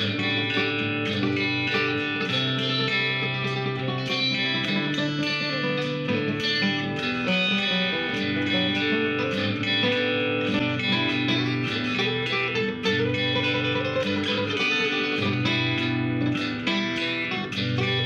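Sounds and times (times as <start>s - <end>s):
guitar-led song: 0.0s - 18.0s.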